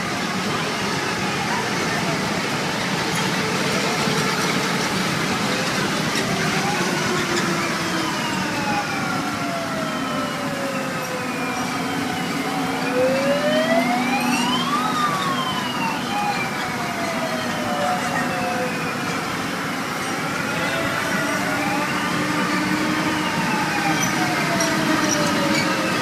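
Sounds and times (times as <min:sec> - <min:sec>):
wailing siren: 0:00.0 - 0:26.0.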